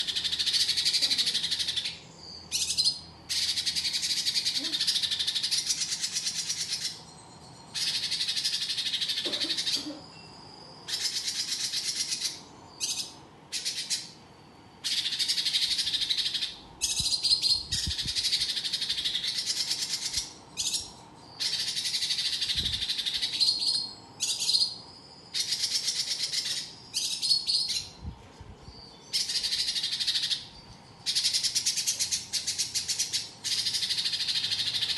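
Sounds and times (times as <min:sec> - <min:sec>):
songbird rapid chattering song: 0:00.0 - 0:34.9.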